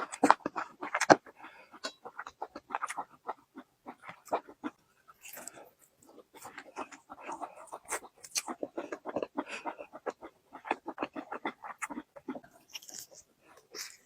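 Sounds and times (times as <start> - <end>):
person chewing with wet smacks: 0.0 - 14.0.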